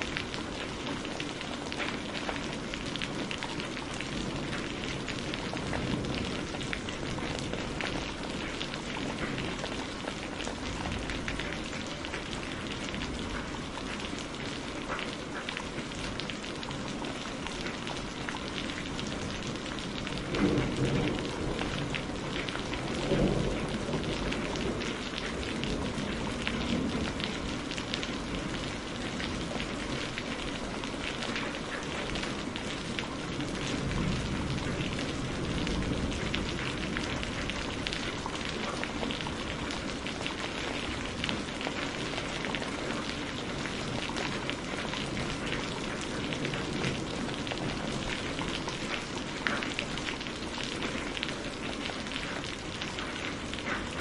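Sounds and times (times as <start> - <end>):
low rumbles of thunder: 0.0 - 14.4, 18.4 - 51.6
heavy rain hissing and pattering: 0.0 - 54.0.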